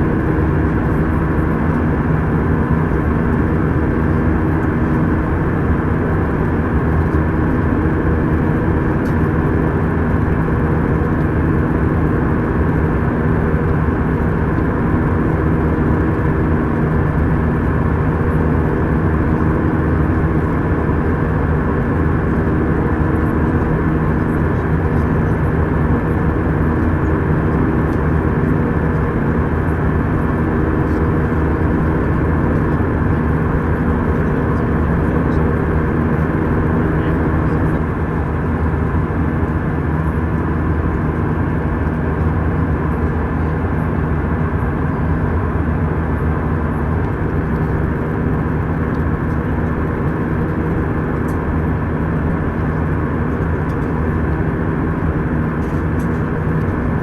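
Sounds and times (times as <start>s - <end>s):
jet engine drone: 0.0s - 57.0s
low steady hum: 0.0s - 57.0s.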